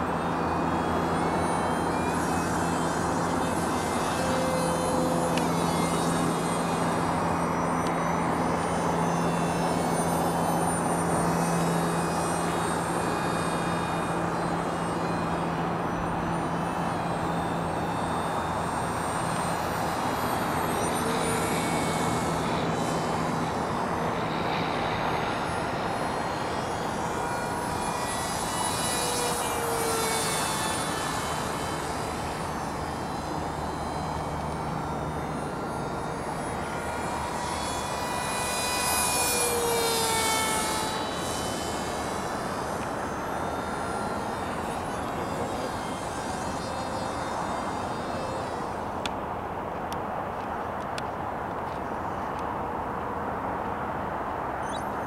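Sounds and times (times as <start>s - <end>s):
model plane motor whirring: 0.0s - 55.0s.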